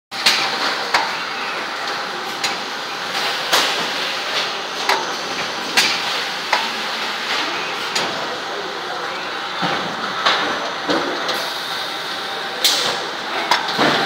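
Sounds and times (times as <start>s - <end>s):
conveyor mechanical hiss: 0.2s - 14.0s.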